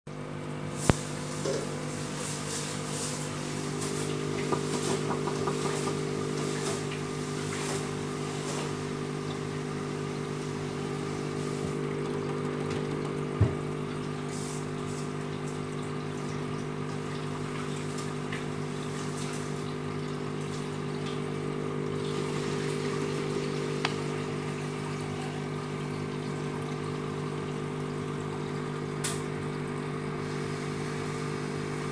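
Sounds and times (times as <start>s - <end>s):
aquarium pump humming: 0.1s - 31.9s
water bubbling from aeration: 0.1s - 31.9s.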